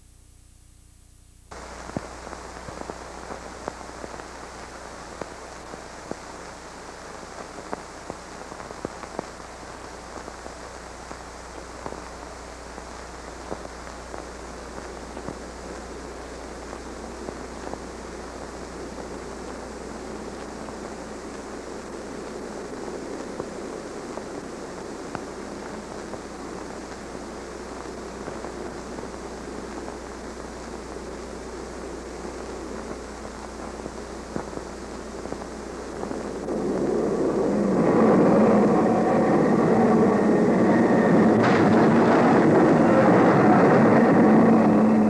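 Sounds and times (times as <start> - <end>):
film soundtrack hiss and crackle: 0.0 - 45.0.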